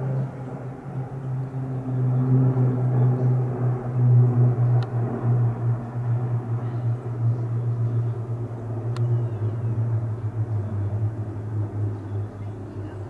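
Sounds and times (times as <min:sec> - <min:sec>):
small aircraft droning overhead: 0:00.0 - 0:13.0.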